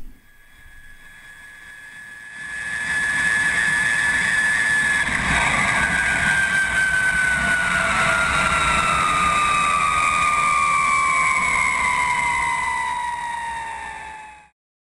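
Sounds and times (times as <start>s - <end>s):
electric motor whining: 0.0s - 14.5s.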